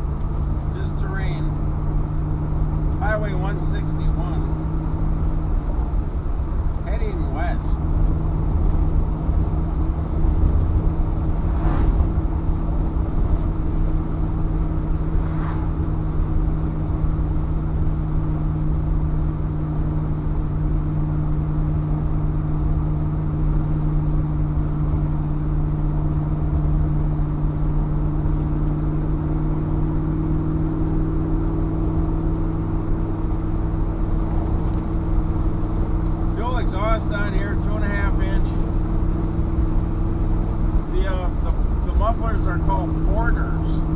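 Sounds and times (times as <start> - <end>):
car exhaust droning: 0.0 - 43.9.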